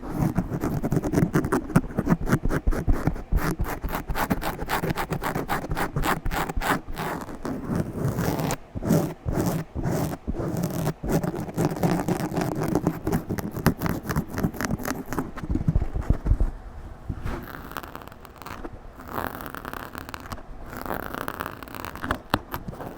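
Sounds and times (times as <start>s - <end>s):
scratching on a microphone: 0.0s - 22.9s.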